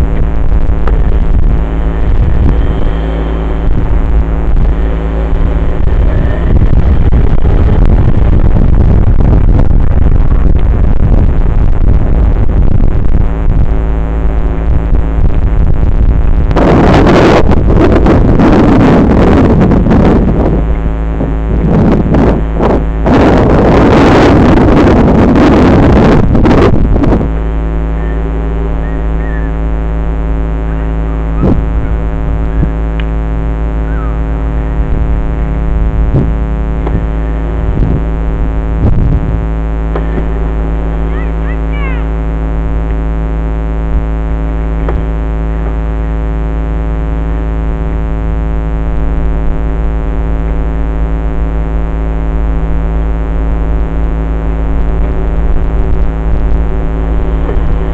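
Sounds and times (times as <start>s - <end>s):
dirt bike engine idling: 0.0s - 15.3s, 25.3s - 57.9s
wind buffeting microphone: 0.0s - 41.1s, 51.4s - 57.9s.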